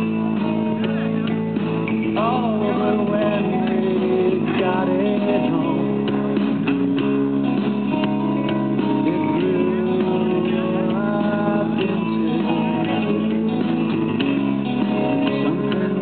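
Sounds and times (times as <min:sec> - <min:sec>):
person singing: 0:00.0 - 0:07.3, 0:07.9 - 0:16.0
strummed guitar: 0:00.0 - 0:16.0.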